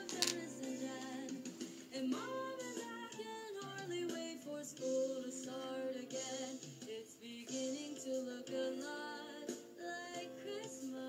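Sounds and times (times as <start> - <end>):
christmas music with singing: 0.0 - 11.0.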